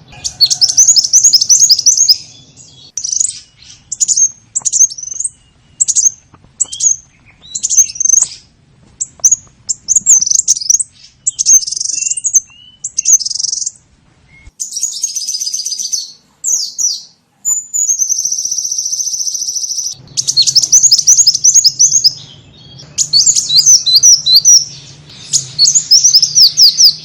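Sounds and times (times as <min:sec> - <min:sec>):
bird call chirps and trills: 0:00.0 - 0:27.0.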